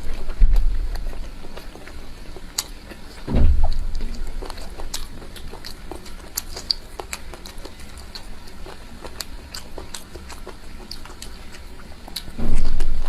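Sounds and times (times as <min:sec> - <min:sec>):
mouth chewing food: 0:00.0 - 0:13.0.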